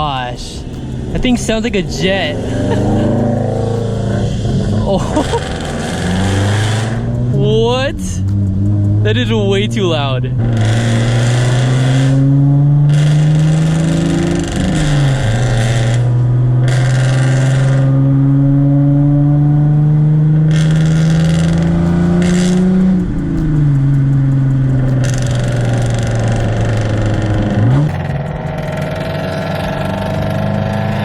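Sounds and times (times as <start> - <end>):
car engine with loud exhaust: 0.0 - 31.0.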